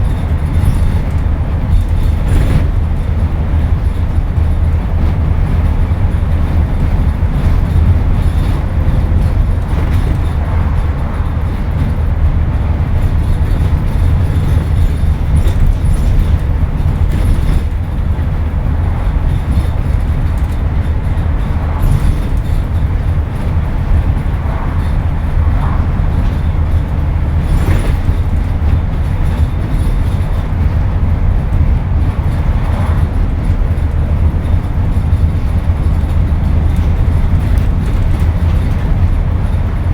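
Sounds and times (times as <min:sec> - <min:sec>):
bus diesel engine droning: 0:00.0 - 0:39.9
light rattles: 0:00.0 - 0:39.9.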